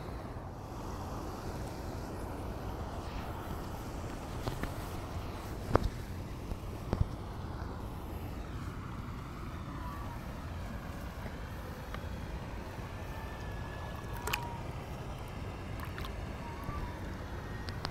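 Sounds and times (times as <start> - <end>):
wind rumble on microphone: 0.0 - 17.9.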